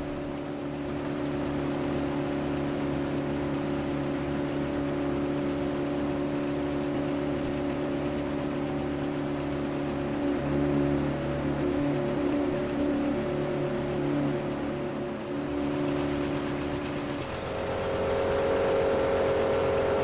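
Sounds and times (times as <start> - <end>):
locomotive engine droning: 0.0 - 20.0.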